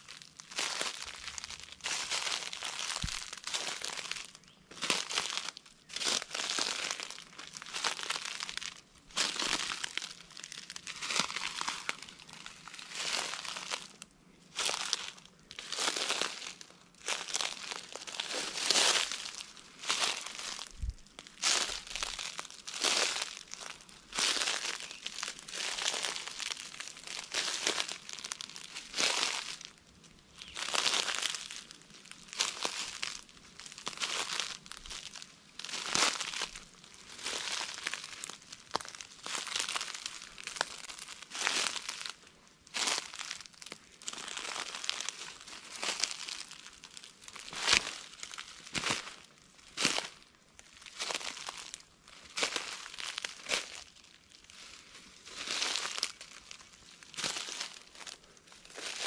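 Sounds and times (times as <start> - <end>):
footsteps crunching dry leaves: 0.0 - 59.0.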